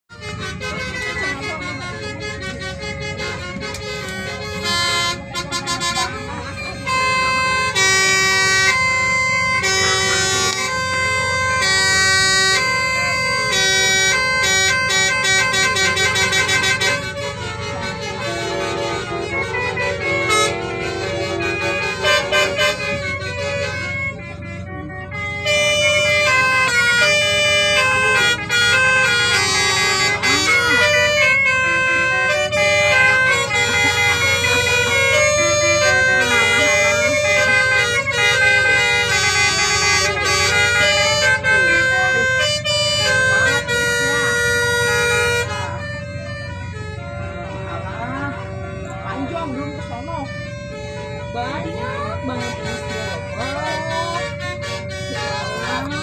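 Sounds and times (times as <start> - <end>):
low engine rumble: 0.1 - 56.0
musical air horns playing chords: 0.1 - 56.0.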